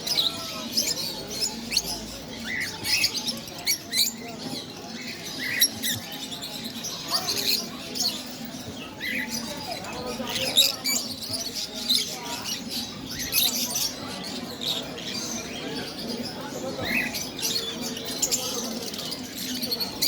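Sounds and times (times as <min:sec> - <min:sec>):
parrots chattering: 0:00.0 - 0:20.0.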